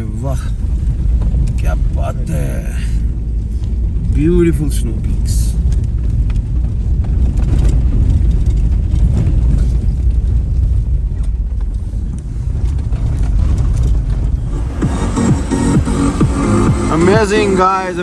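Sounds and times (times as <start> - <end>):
vehicle rumble on road: 0.0 - 18.0
wind noise on microphone: 0.0 - 18.0.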